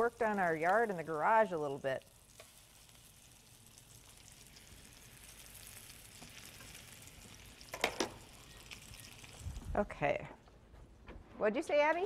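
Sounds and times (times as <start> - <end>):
chicken frying in oil: 0.0 - 10.0.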